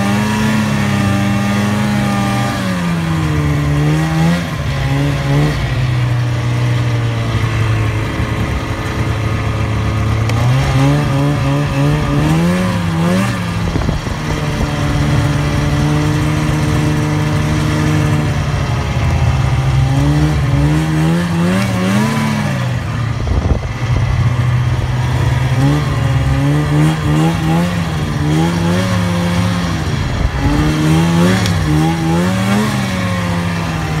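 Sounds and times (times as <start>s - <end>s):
snowmobile engine revving: 0.0s - 34.0s.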